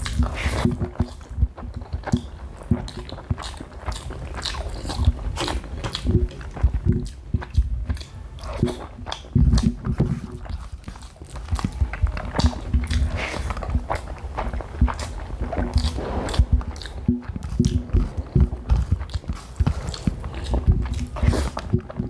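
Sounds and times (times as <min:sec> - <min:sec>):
person chewing and crunching: 0:00.0 - 0:22.0.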